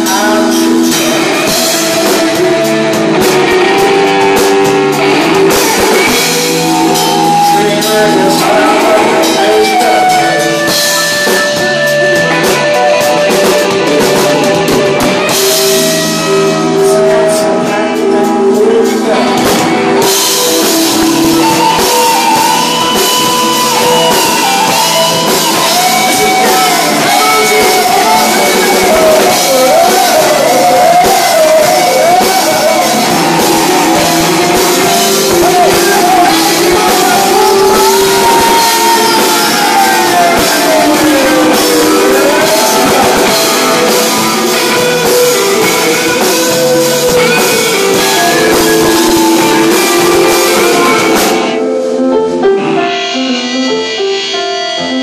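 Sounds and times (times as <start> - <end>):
drum kit: 0.0 - 55.0
electric guitars: 0.0 - 55.0
person singing: 0.0 - 55.0.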